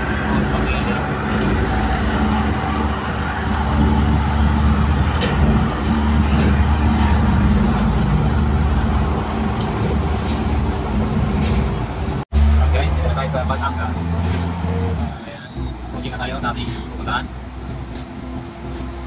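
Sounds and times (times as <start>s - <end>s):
engine hum inside vehicle: 0.0s - 19.0s
tyre road noise: 0.0s - 19.0s.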